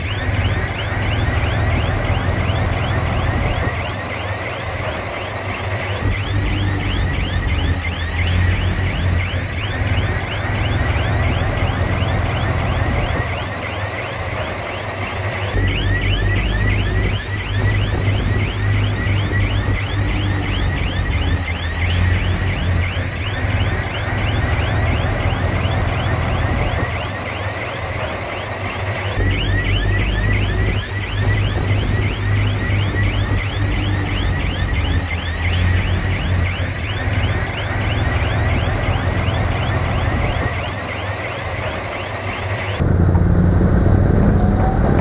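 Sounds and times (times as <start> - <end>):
bulldozer diesel engine: 0.0 - 45.0.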